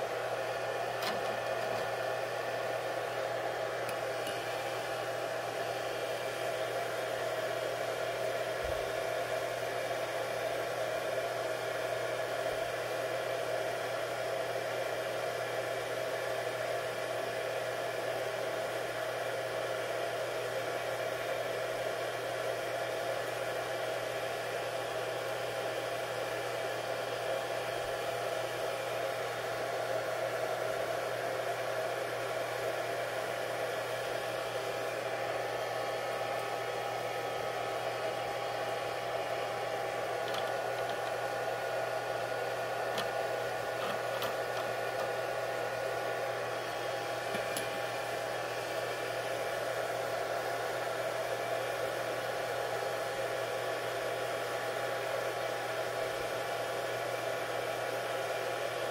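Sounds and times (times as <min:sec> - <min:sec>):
electric appliance whirring: 0:00.0 - 0:58.9.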